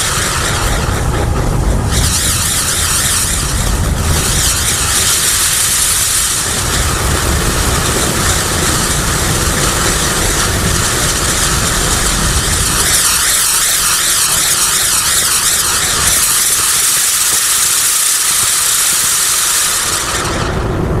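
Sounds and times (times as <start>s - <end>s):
firework hissing: 0.0s - 21.0s
warbling firework whistle: 0.0s - 21.0s.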